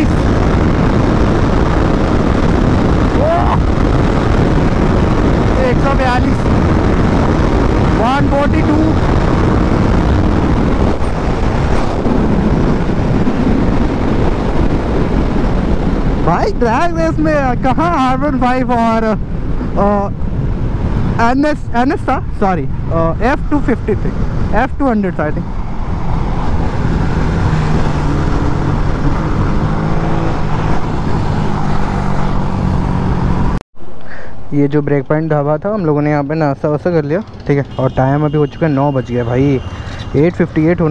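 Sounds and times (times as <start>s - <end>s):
motorcycle engine drone: 0.0s - 33.6s, 35.4s - 40.9s
wind rushing over microphone: 0.0s - 40.9s.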